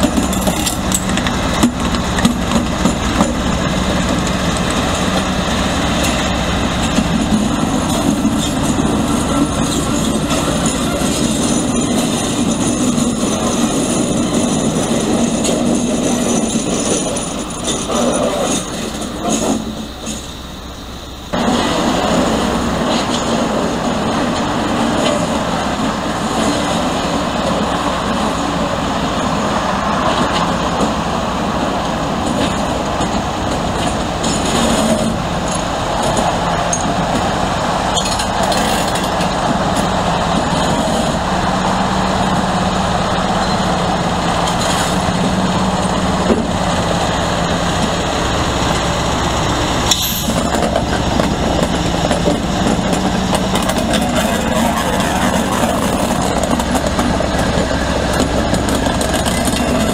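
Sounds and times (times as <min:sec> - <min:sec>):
diesel locomotive engine passing: 0:00.0 - 0:59.9.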